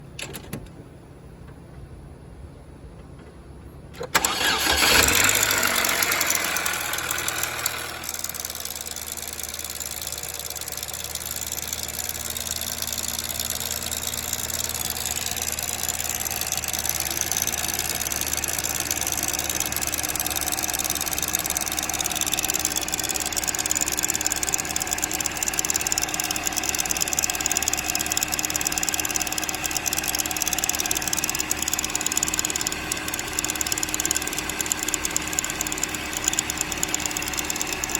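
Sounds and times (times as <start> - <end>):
car engine starting and idling: 3.1 - 37.9
engine knocking rattle: 4.2 - 37.9.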